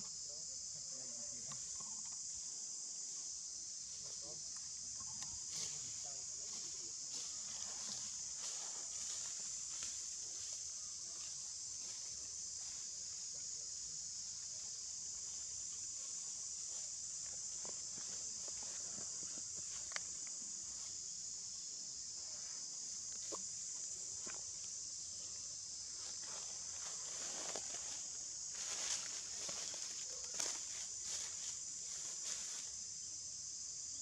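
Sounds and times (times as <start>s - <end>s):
insect chorus droning: 0.0s - 34.0s.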